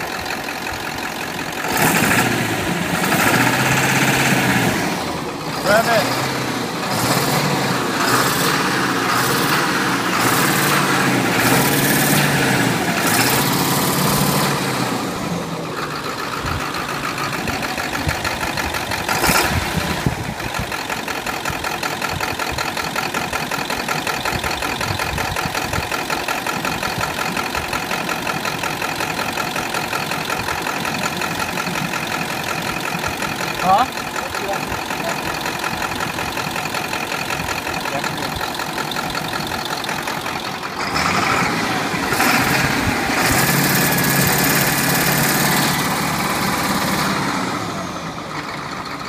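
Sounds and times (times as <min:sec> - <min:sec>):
diesel engine revving and idling: 0:00.0 - 0:49.0.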